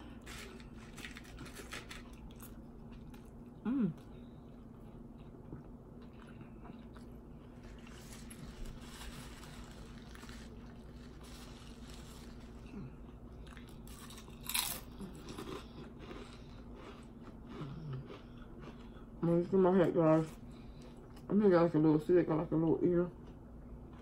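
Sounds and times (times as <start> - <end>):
potato chips crunching and chewing: 0.0 - 20.2
faint steady hum: 0.0 - 24.0.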